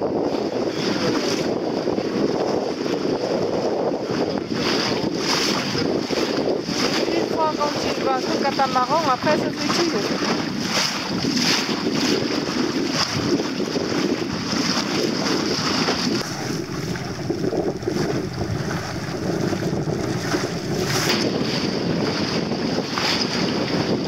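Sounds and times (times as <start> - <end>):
water rushing along a hull: 0.0 - 24.0
wind buffeting microphone: 0.0 - 24.0.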